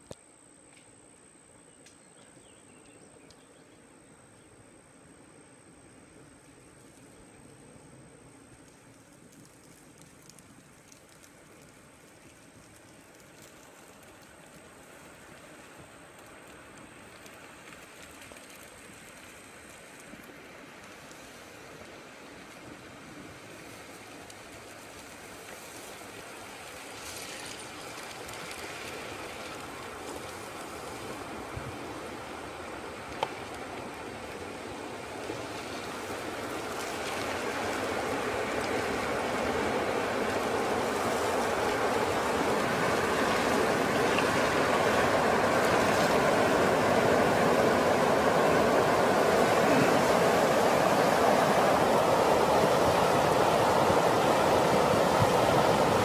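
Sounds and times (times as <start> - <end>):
floodwater rushing: 11.2 - 56.0.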